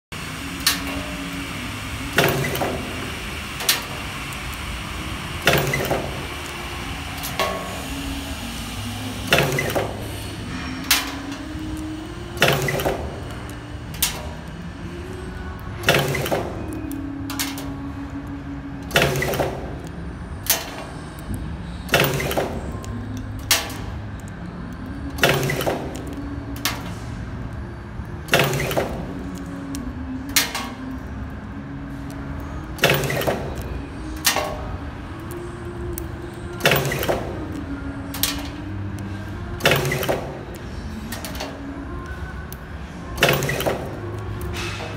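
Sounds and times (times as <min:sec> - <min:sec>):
steady low hum: 0:00.1 - 0:44.9.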